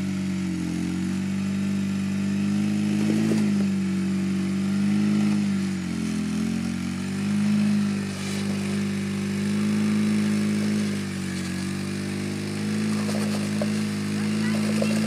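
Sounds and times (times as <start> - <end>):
engine working under load: 0.0 - 15.0.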